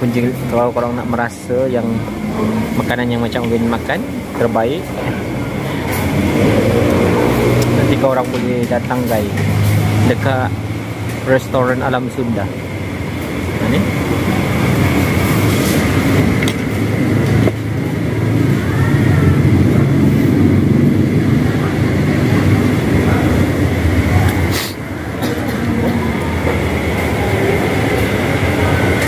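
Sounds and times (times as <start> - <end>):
indistinct chatter: 0.0 - 29.0.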